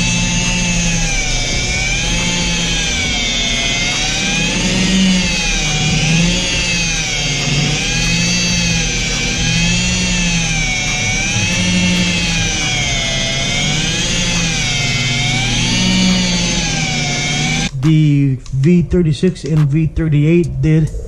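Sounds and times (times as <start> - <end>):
electric polisher motor whine: 0.0 - 17.7.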